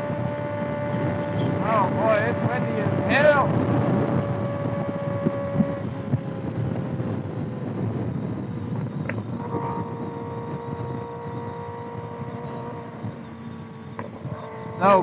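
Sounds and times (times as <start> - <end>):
motorcycle engine cruising: 0.0 - 15.0
wind noise on microphone: 0.0 - 15.0.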